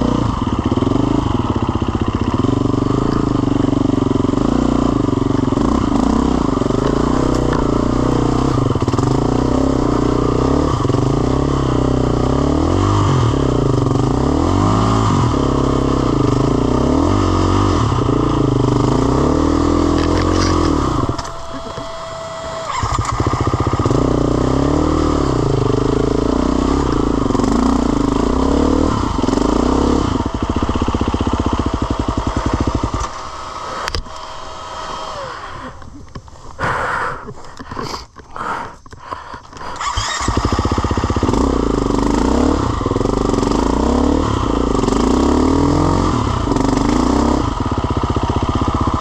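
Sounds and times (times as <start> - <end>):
off-road motorcycle engine revving: 0.0 - 49.0.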